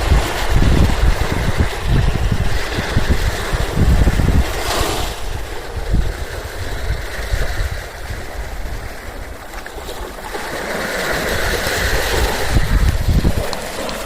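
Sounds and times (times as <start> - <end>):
small waves lapping on shore: 0.0 - 14.0
wind rumble on microphone: 0.0 - 14.0.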